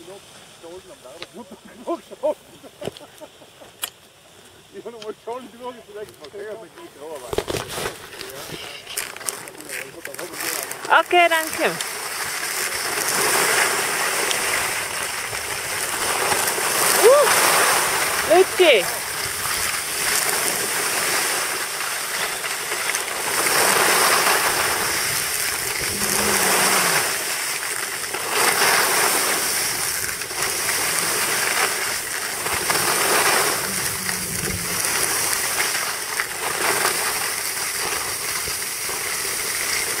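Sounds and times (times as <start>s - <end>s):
skis scraping over snow: 4.8s - 40.0s.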